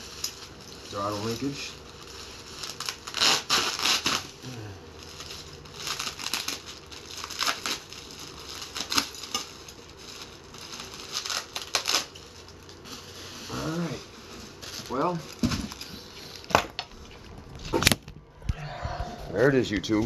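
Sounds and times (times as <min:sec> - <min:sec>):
packaging crinkling and rustling: 0:00.0 - 0:18.2.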